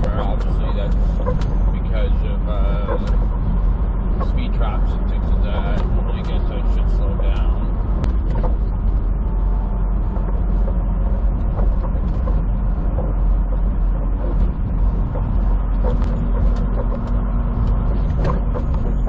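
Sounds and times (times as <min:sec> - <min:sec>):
cab rattles and ticks: 0:00.0 - 0:19.0
truck engine and road noise: 0:00.0 - 0:19.0.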